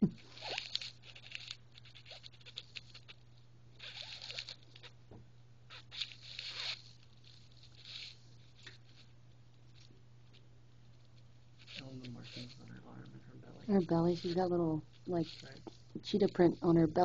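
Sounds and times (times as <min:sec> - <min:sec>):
kitten scratching fabric: 0:00.1 - 0:05.0, 0:05.7 - 0:13.0, 0:13.7 - 0:17.0.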